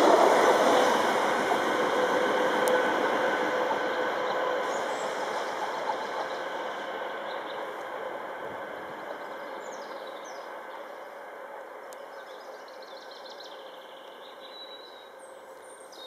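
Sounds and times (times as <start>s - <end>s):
diesel locomotive engine: 0.0s - 16.0s
birds chirping: 2.7s - 16.0s.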